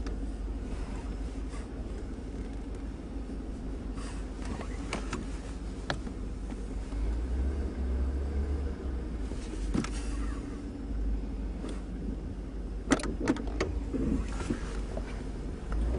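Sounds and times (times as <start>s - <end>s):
truck engine and road rumble: 0.0s - 15.9s.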